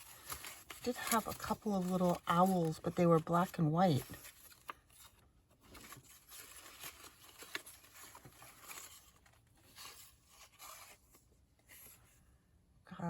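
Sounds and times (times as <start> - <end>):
paper rustling: 0.0 - 12.2.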